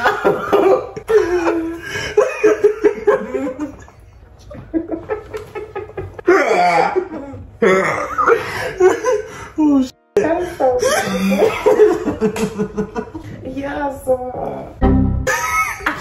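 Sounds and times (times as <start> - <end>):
people laughing hard: 0.0 - 9.8, 10.8 - 13.3, 15.3 - 16.0.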